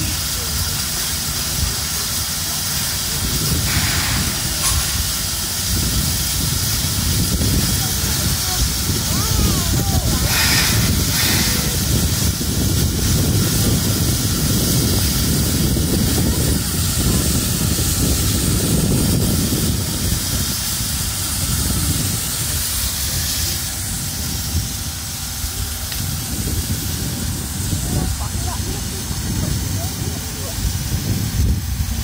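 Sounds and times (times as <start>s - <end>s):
locomotive low rumble: 0.0s - 32.0s
steam hissing: 0.0s - 32.0s.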